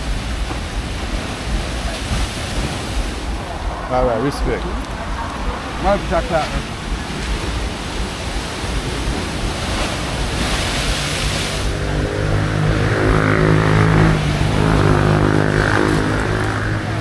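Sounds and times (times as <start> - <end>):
steady engine hum: 0.0 - 17.0
surf breaking on rocky shore: 0.0 - 17.0.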